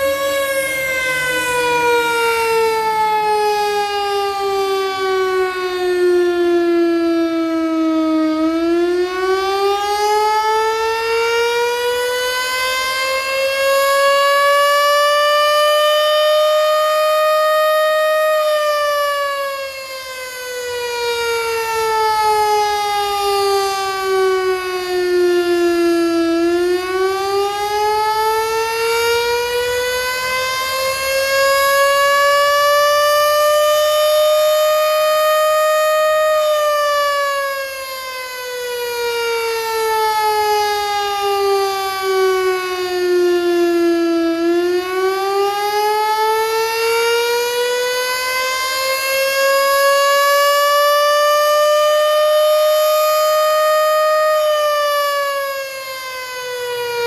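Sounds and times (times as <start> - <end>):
siren wailing: 0.0 - 57.0.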